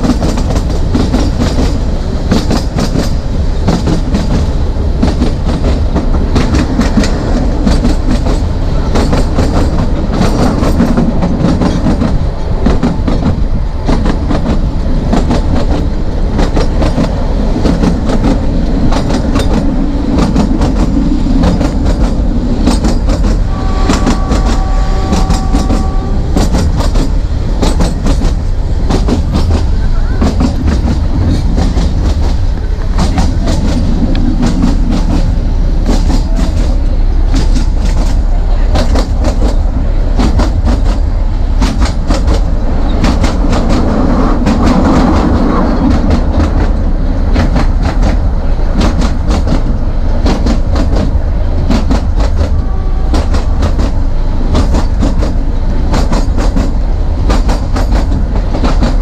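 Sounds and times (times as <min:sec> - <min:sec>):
train wheels rumbling: 0:00.0 - 0:59.0
wheels clicking over rail joints: 0:00.0 - 0:59.0.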